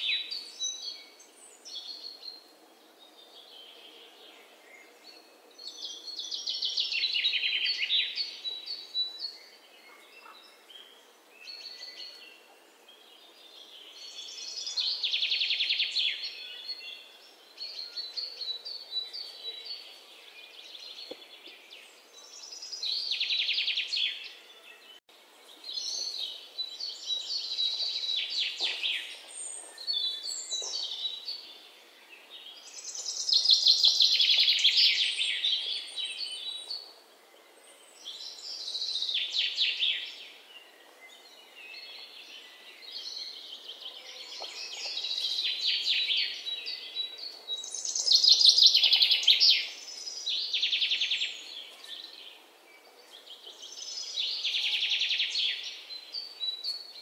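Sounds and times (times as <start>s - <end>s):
background hiss: 0.0s - 57.0s
birds singing trills: 0.0s - 57.0s.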